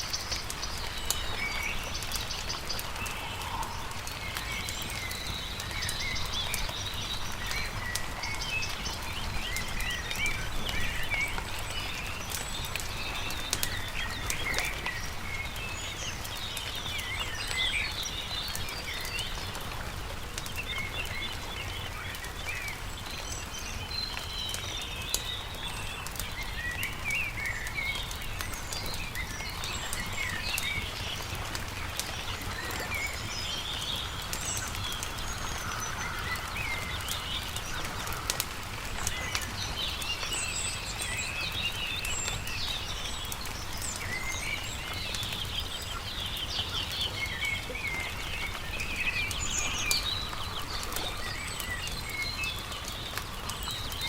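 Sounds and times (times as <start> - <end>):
campfire crackling: 0.0 - 54.0
small birds chirping: 0.0 - 54.0.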